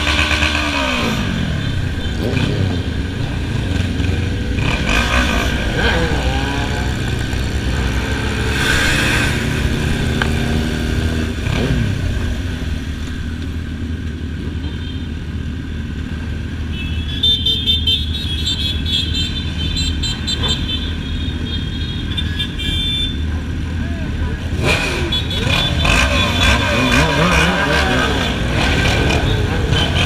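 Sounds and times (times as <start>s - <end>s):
motorcycle engines running: 0.0s - 30.0s
road and wind rumble: 0.0s - 30.0s.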